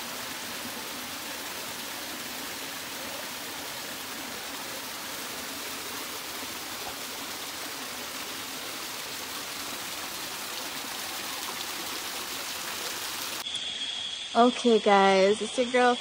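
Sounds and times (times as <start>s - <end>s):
waterfall rushing over rocks: 0.0s - 13.4s.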